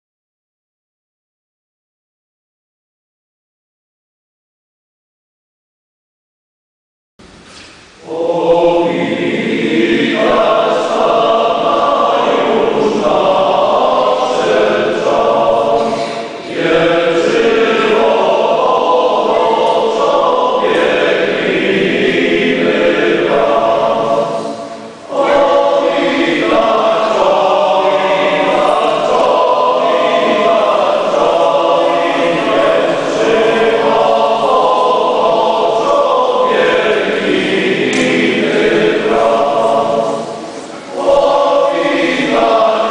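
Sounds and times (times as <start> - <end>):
male choir singing: 8.0 - 42.9.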